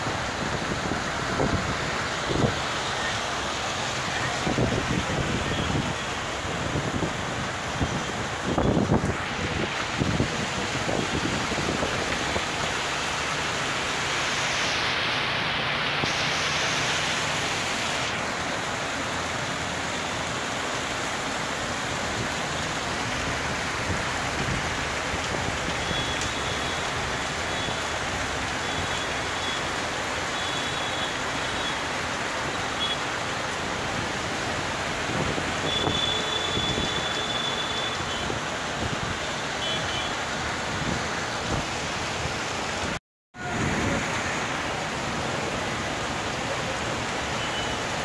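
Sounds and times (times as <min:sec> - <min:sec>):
heavy rain on road: 0:00.0 - 0:48.0
traffic passing on wet street: 0:00.0 - 0:48.0.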